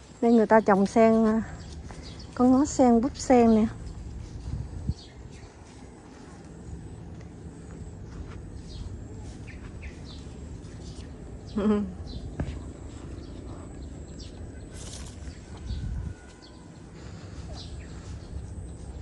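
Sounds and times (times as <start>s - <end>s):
small birds chirping: 0.0s - 7.2s, 8.0s - 19.0s
low background hum: 0.0s - 19.0s
low rumble: 1.4s - 19.0s.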